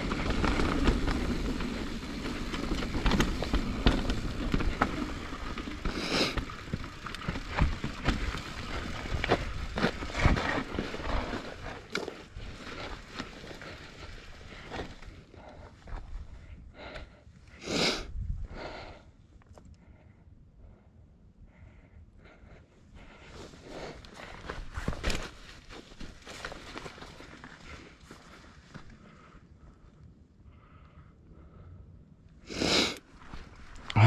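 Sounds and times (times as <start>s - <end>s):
bike tyres rumbling on trail: 0.0s - 17.7s, 23.0s - 31.7s, 32.6s - 34.0s.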